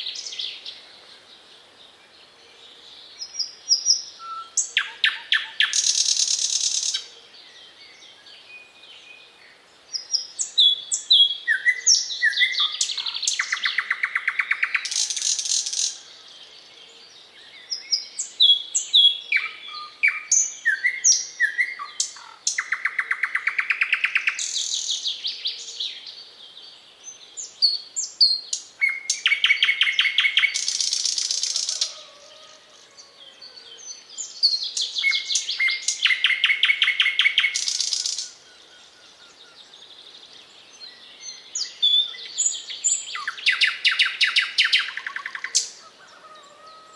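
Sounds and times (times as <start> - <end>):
nightingale singing: 0.0 - 46.9.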